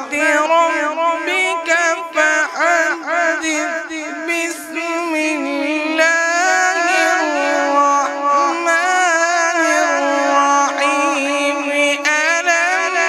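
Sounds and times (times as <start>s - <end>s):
man chanting recitation: 0.0s - 13.0s.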